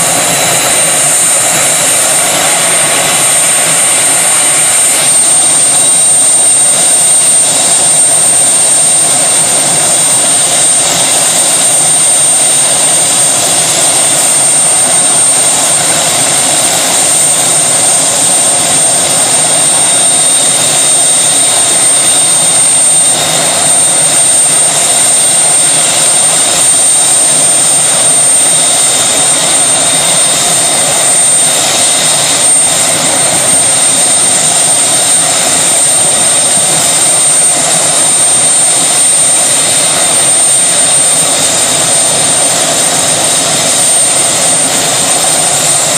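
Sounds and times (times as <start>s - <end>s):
helicopter running: 0.0s - 45.9s
high-pitched whine: 0.0s - 45.9s.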